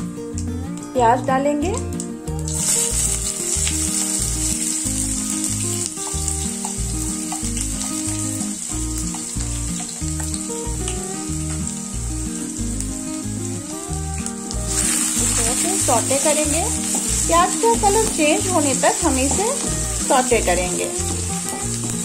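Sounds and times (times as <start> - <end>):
background music with beat: 1.7 - 22.0
onions sizzling in hot oil: 2.3 - 22.0.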